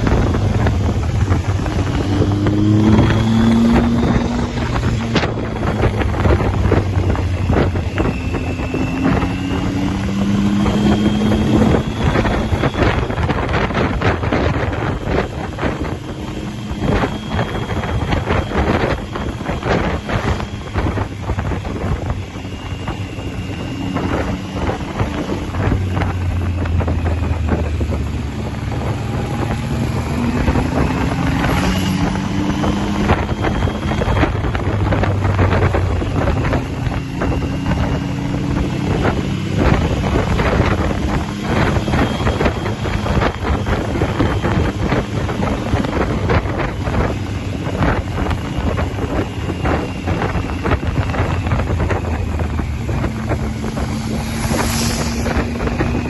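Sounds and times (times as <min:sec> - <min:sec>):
motorcycle engine revving: 0:00.0 - 0:56.0
wind buffeting microphone: 0:00.0 - 0:56.0.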